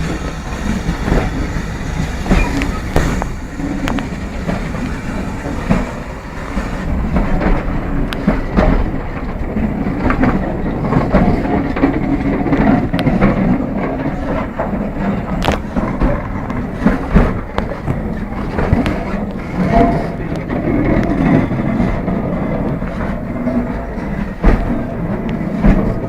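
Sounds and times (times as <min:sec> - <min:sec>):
steady train rumble: 0:00.0 - 0:26.0
train wheels clicking on rails: 0:00.0 - 0:26.0.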